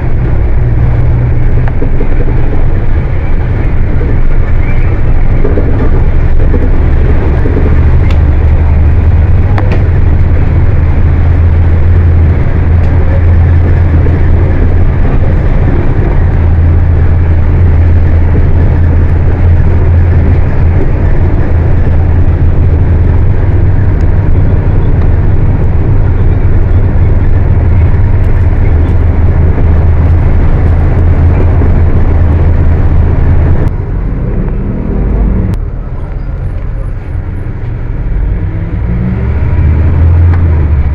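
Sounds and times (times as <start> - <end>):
diesel bus engine droning: 0.0 - 40.9.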